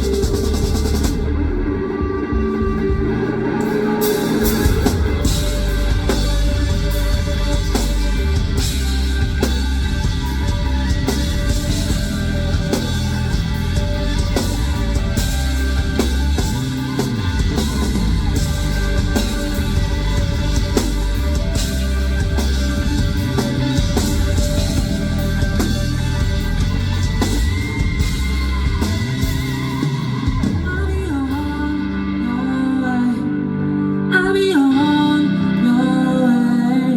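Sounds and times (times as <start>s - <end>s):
cymbals: 0.0s - 31.5s
live rock band playing: 0.0s - 36.9s
person singing: 0.0s - 36.9s.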